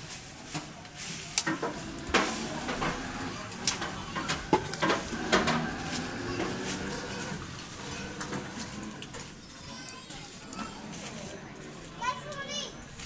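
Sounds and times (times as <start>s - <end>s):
dry leaves crackling and rustling: 0.0s - 13.0s.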